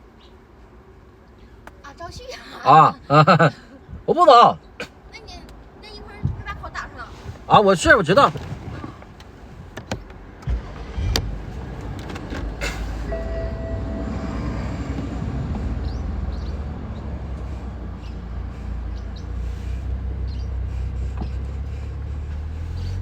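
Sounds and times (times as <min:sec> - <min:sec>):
car engine rumble: 0:00.0 - 0:23.0.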